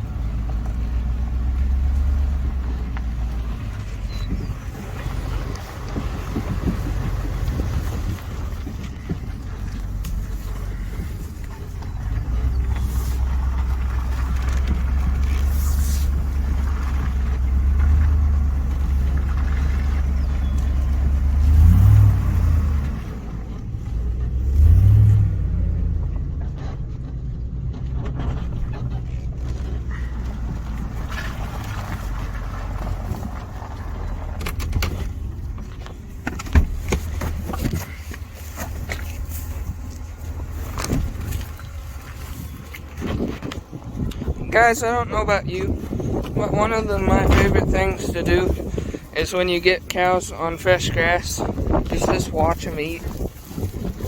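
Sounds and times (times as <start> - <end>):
vehicle engine running and revving: 0.0 - 54.0.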